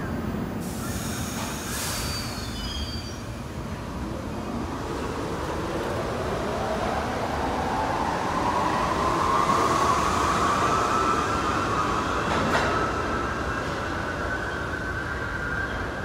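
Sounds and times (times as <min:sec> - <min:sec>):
rail and wheel noise: 0:00.0 - 0:16.0.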